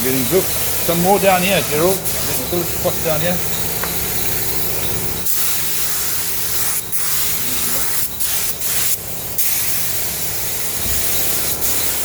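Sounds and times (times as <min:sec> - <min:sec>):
paint spray gun hissing: 0:00.0 - 0:12.0.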